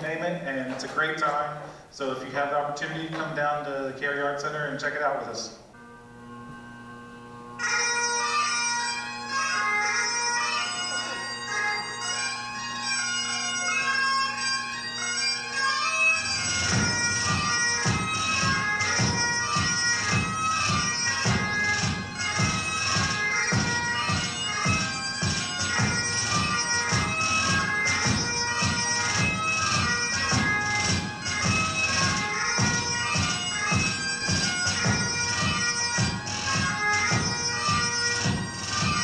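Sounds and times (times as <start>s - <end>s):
bagpipe music: 0.0s - 39.0s.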